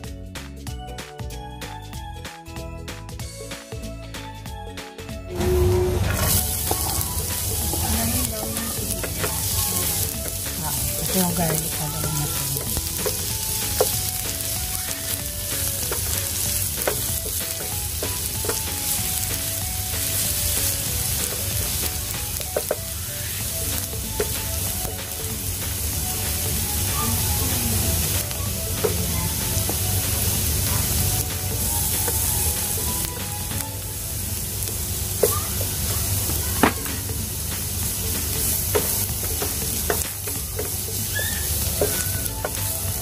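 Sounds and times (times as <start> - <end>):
onion sizzling in hot oil: 5.3 - 43.0.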